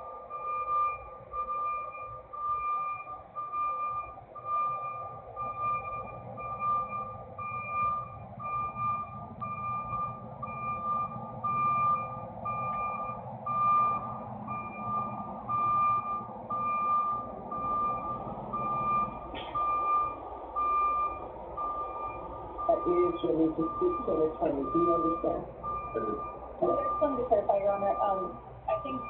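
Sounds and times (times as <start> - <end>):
low engine rumble: 0.0 - 29.0
reversing alarm beeping: 0.0 - 29.0.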